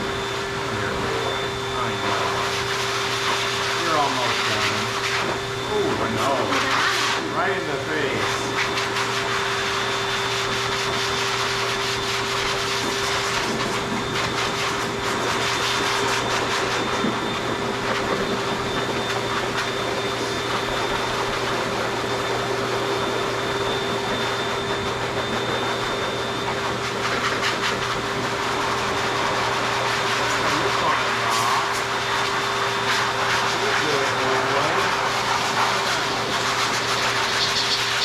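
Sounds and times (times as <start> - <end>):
dog grooming dryer blowing: 0.0 - 38.0.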